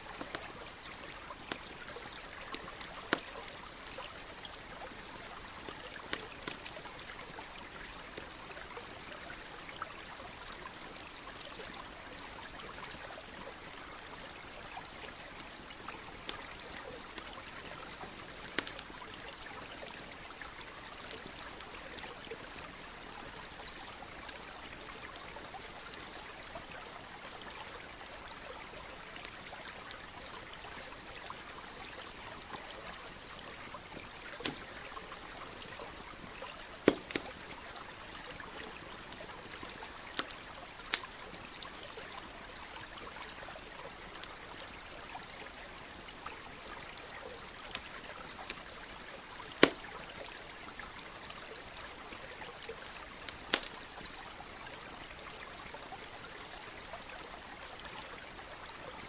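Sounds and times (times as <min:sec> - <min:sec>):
campfire crackling and popping: 0:00.0 - 0:59.0
stream running: 0:00.0 - 0:59.0.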